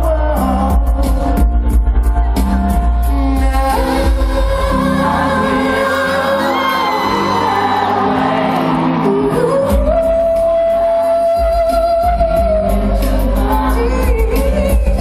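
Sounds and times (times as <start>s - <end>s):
man singing pop ballad: 0.0s - 2.0s, 2.8s - 15.0s
live band playing: 0.0s - 15.0s.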